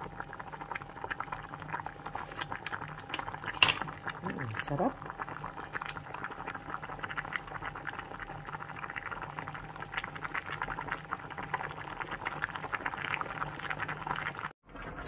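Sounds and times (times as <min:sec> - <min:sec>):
stew boiling in a pot: 0:00.0 - 0:15.0.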